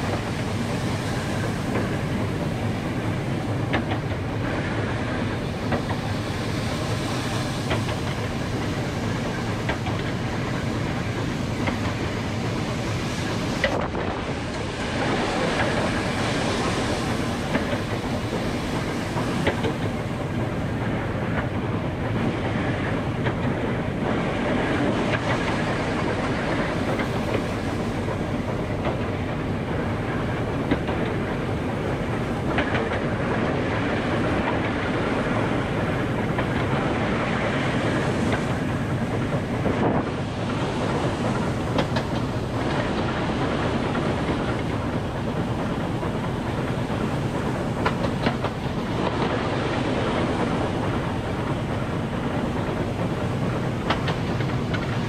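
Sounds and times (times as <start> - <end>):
train wheels rumbling on rails: 0.0 - 55.0
wheels clicking over rail joints: 0.0 - 55.0.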